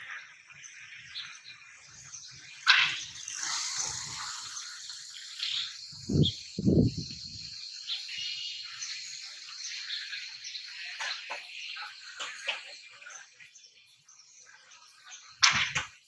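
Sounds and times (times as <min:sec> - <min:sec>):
steady high hiss: 0:01.8 - 0:15.5.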